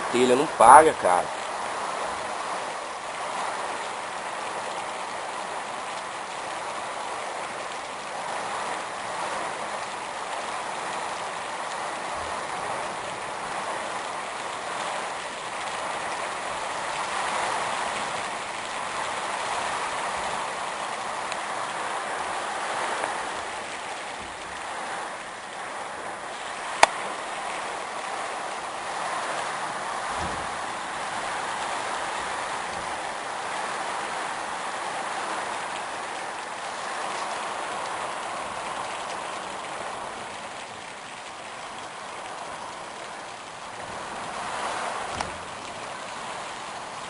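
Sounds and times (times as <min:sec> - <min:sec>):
heavy rain: 0:00.0 - 0:47.0
storm wind: 0:00.0 - 0:47.0.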